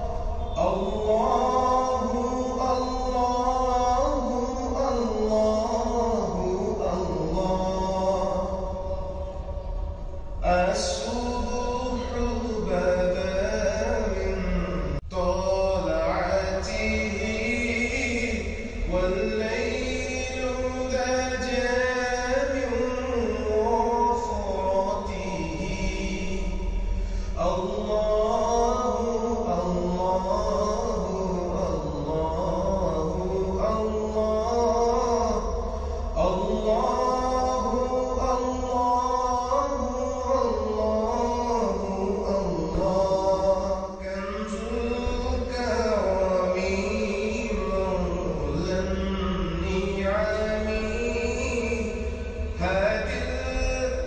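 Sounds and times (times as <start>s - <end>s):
chanted vocal singing: 0.0s - 54.0s.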